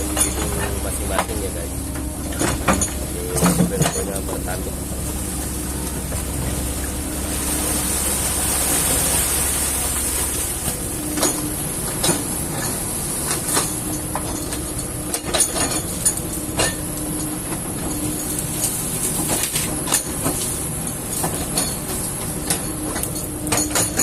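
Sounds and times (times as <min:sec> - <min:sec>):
excavator engine droning: 0:00.0 - 0:24.0.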